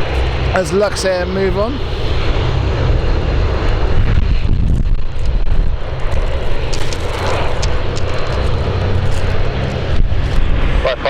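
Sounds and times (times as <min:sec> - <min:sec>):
airliner engine noise: 0:00.0 - 0:11.0
wind buffeting microphone: 0:00.0 - 0:11.0.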